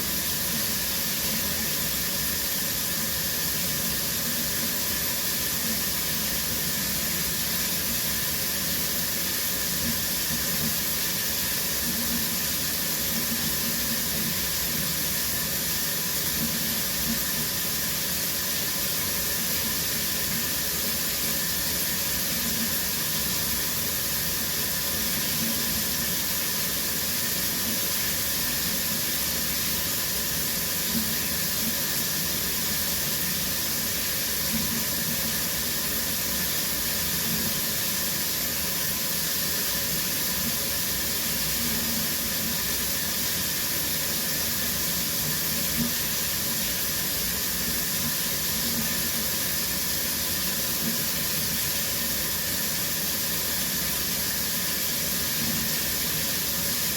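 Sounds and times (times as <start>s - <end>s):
shower water spraying: 0.0s - 56.9s.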